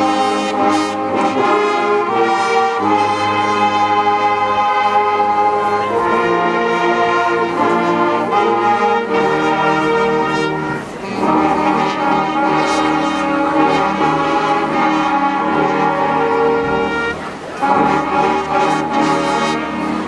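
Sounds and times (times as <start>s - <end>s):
marching band brass chords: 0.0s - 20.0s.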